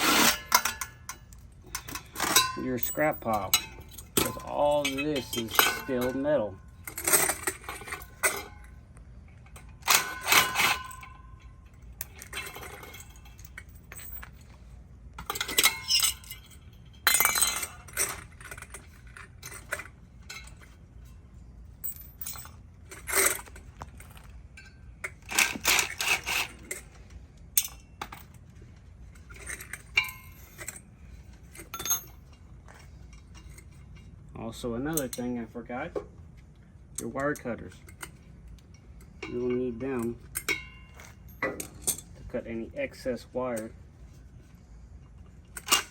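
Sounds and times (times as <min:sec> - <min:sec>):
metal parts clinking and clattering: 0:00.0 - 0:34.2, 0:36.9 - 0:42.3, 0:45.1 - 0:45.9.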